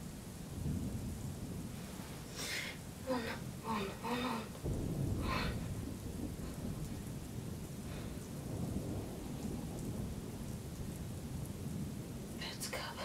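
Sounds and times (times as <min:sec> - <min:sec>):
low rumble of thunder: 0:00.0 - 0:13.0
rain hissing: 0:00.0 - 0:13.0.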